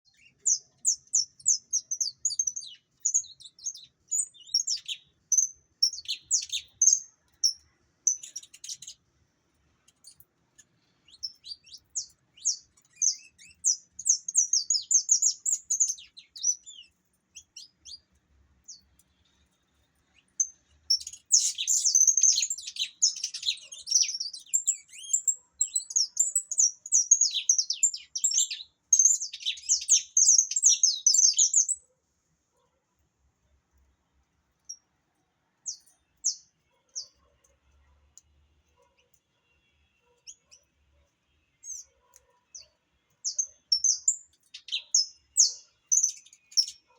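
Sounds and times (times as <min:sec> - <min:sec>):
finch chirps and trills: 0:00.1 - 0:09.1, 0:09.8 - 0:31.9, 0:35.7 - 0:37.8, 0:40.0 - 0:40.8, 0:41.5 - 0:46.9.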